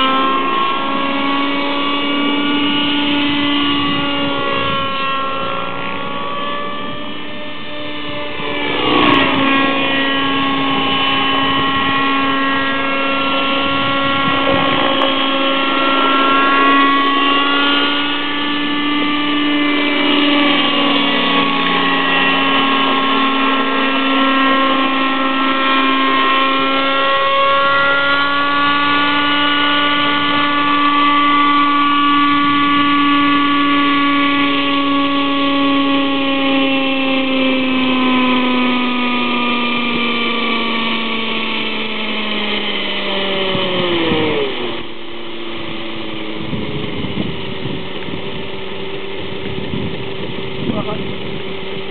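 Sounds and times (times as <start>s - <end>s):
model helicopter engine buzzing: 0.0s - 51.9s.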